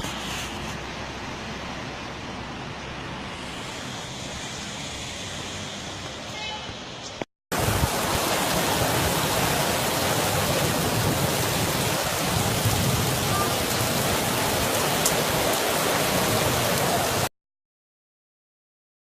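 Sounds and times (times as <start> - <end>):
heavy rain pouring: 0.0 - 6.4, 7.5 - 17.3.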